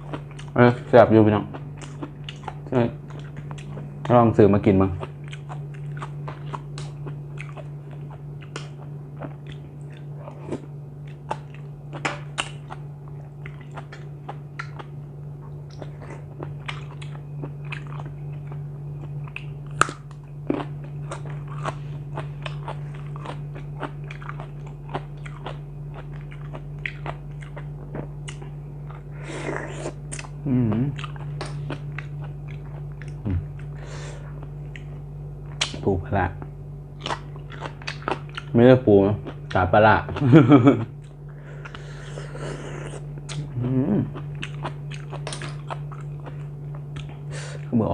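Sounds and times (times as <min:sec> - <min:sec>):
person chewing and crunching: 0:00.0 - 0:04.2, 0:04.8 - 0:35.8, 0:36.4 - 0:38.6, 0:39.2 - 0:47.7
steady low hum: 0:00.0 - 0:47.9.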